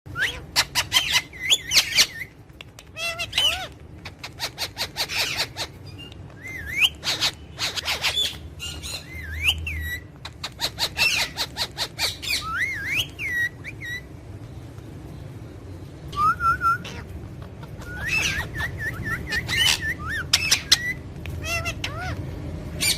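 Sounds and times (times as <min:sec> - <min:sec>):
parrots harsh chatter: 0:00.1 - 0:14.1, 0:16.8 - 0:22.9
parrots whistling: 0:00.1 - 0:14.2, 0:16.1 - 0:22.9.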